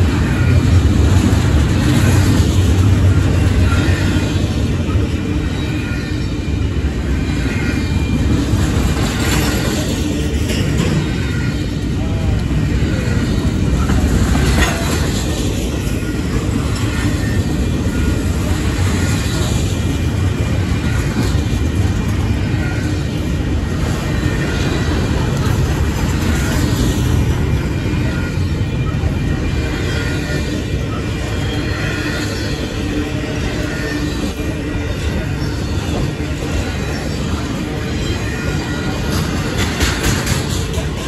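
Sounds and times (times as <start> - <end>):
freight train wheels rumbling: 0.0 - 41.0
train cars clanking: 0.0 - 41.0.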